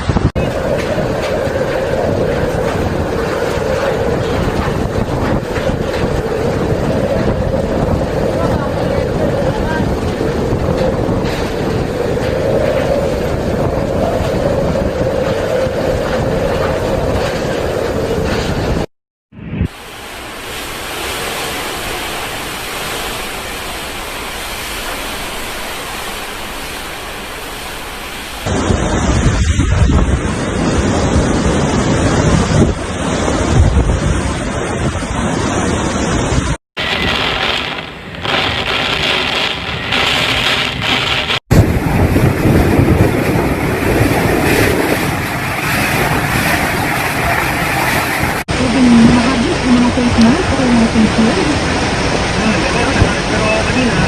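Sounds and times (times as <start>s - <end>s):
rushing water: 0.0s - 18.8s, 19.7s - 54.0s
heavy rain pouring: 0.0s - 18.9s, 19.6s - 54.0s
wind buffeting the microphone: 0.0s - 18.9s, 28.4s - 54.0s.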